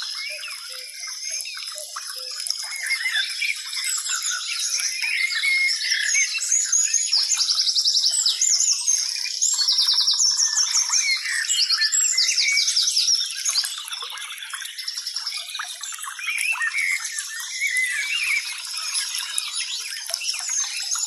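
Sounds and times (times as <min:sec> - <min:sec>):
birds singing and chirping: 0:00.0 - 0:21.0.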